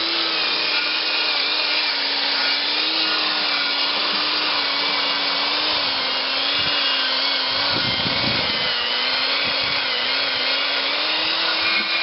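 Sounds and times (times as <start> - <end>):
wire brush power tool on steel: 0.0 - 12.0.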